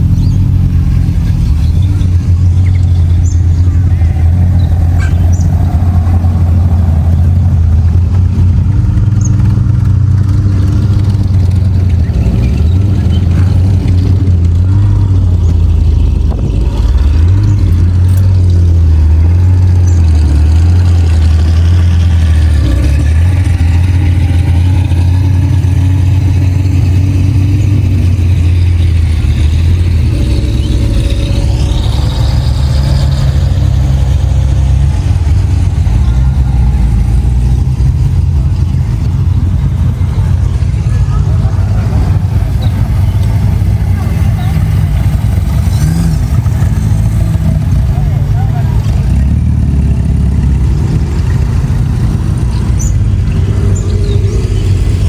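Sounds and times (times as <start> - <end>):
car engines rumbling: 0.0 - 55.0.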